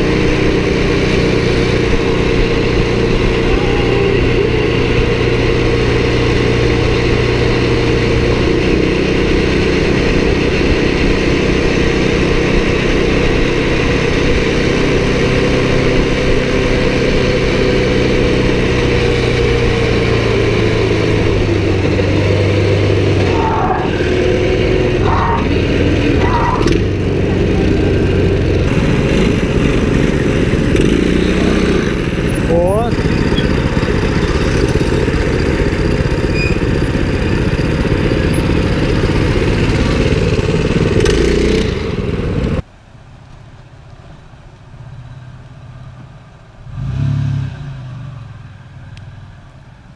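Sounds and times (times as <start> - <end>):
small atv engine running: 0.0 - 42.6.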